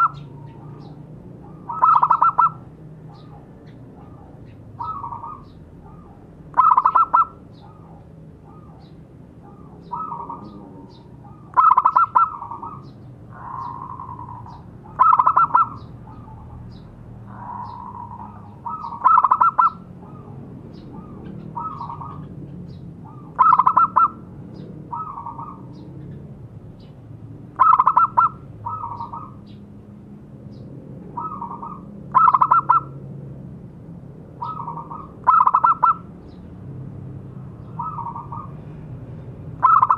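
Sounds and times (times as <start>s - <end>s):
dove cooing: 0.0s - 26.2s, 27.6s - 29.5s, 31.1s - 33.0s, 34.4s - 36.1s, 37.7s - 38.8s, 39.6s - 39.9s.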